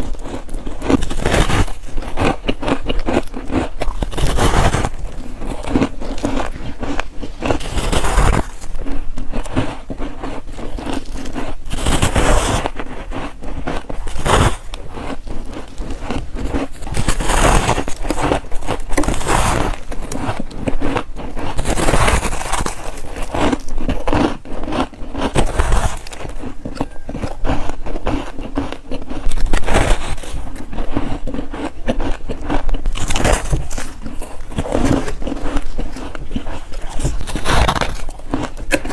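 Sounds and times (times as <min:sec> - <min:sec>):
frost crunching between teeth: 0:00.0 - 0:38.9.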